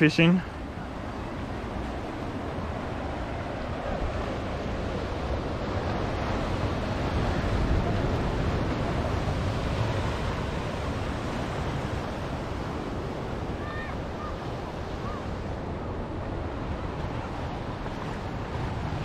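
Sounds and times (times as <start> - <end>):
waves breaking on a beach: 0.0 - 19.0
wind: 0.0 - 19.0.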